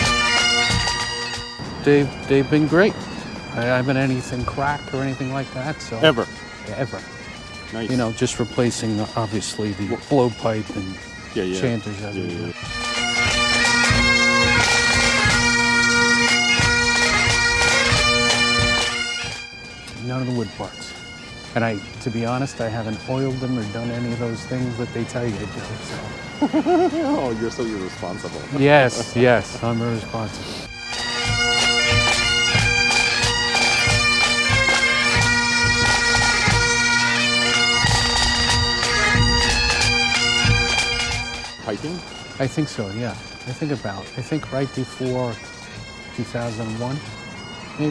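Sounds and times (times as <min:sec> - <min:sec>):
low thumps: 0:00.0 - 0:11.4, 0:12.0 - 0:47.5
bagpipes playing: 0:00.0 - 0:47.9.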